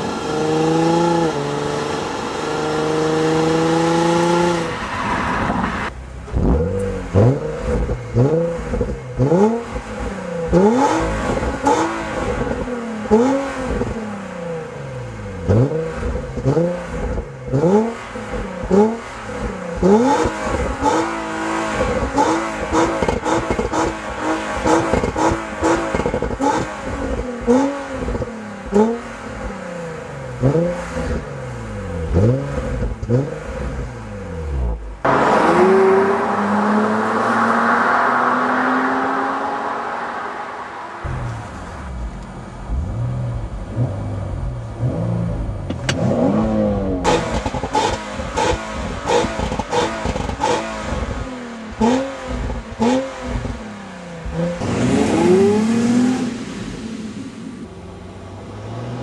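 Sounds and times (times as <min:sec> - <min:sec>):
car accelerating away: 0:00.0 - 0:59.0
car engine revving: 0:00.0 - 0:59.0.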